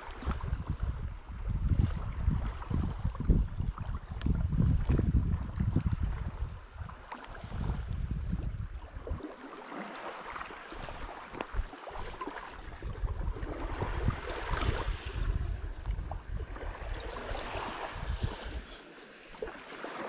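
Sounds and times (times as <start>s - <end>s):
wind buffeting microphone: 0.0s - 9.4s, 10.3s - 18.8s.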